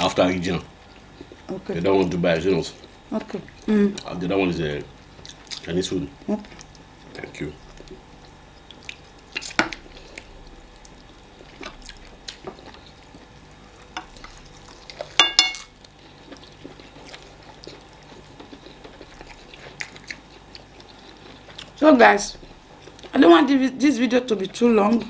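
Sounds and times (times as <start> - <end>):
wet squishing of food: 0.0 - 21.8.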